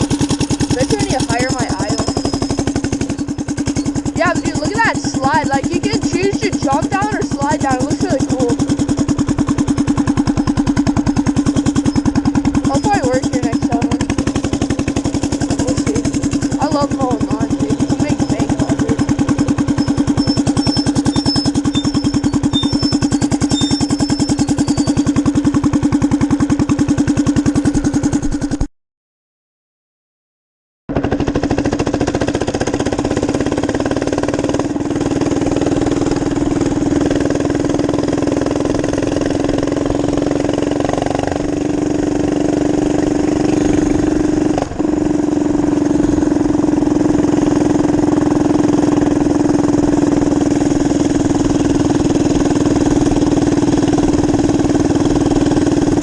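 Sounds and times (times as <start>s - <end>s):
minibike engine running: 0.0s - 28.7s, 30.9s - 56.0s.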